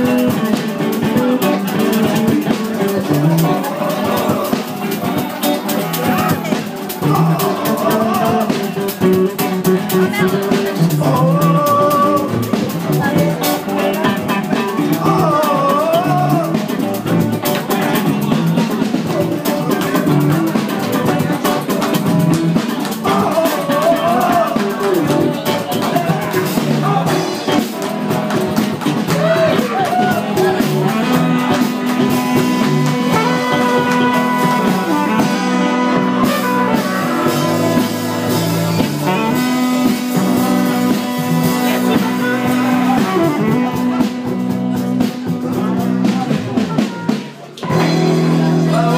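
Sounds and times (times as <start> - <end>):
drum kit: 0.0 - 48.9
electric guitar: 0.0 - 48.9
live band playing: 0.0 - 48.9.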